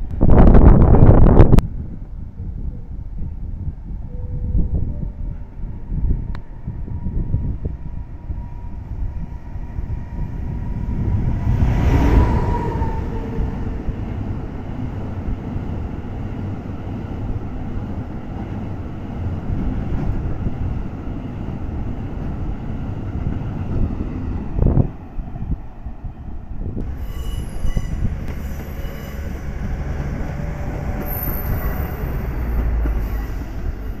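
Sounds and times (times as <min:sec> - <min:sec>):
freight train passing: 0:00.0 - 0:34.0.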